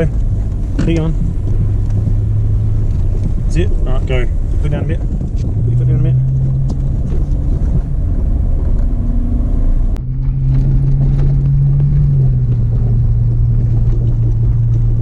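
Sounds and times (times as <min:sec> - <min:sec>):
car engine low drone: 0:00.0 - 0:15.0.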